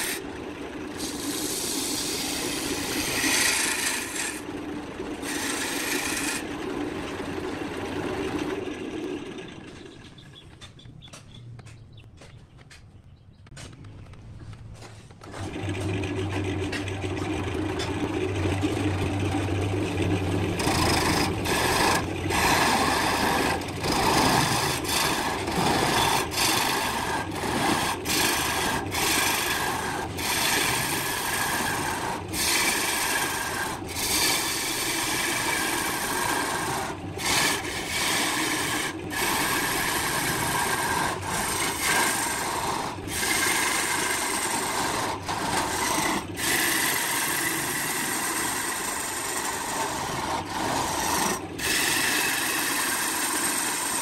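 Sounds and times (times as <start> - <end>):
gouge rasping on spinning wood: 0.0 - 10.2, 15.3 - 54.0
lathe motor hum: 0.0 - 10.8, 15.2 - 54.0.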